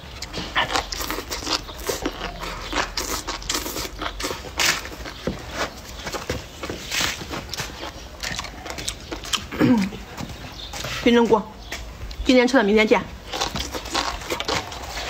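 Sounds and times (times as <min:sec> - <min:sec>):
wet chewing smacks: 0:00.1 - 0:10.9, 0:13.3 - 0:15.0.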